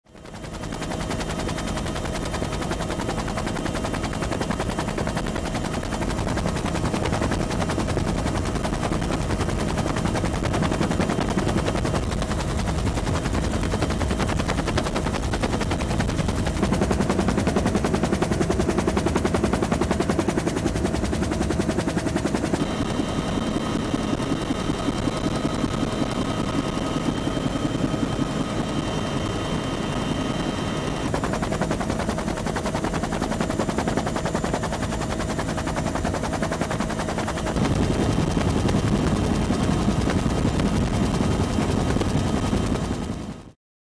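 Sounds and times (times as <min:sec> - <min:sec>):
helicopter rotor beating: 0:00.1 - 0:43.6.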